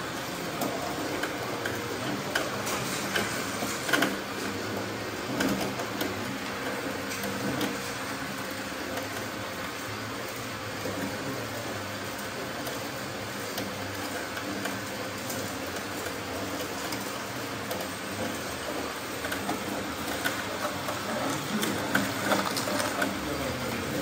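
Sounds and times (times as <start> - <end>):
steady motor hum: 0.0 - 24.0.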